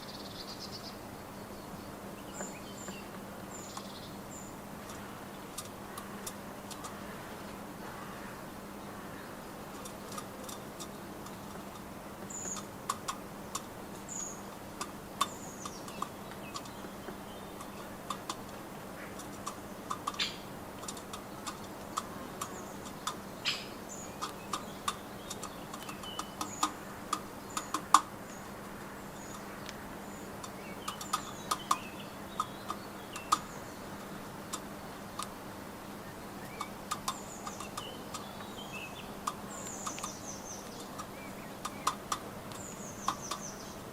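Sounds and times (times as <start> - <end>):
birds tapping at feeder: 1.9 - 43.9.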